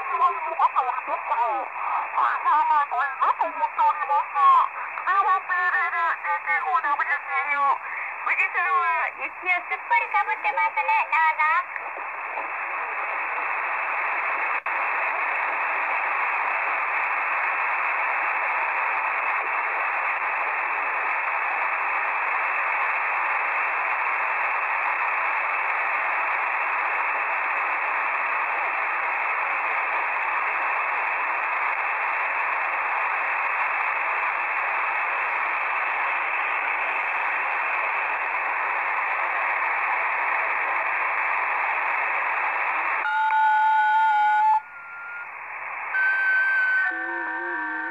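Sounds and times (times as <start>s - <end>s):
shortwave radio static hiss: 0.0s - 43.1s, 44.7s - 47.9s.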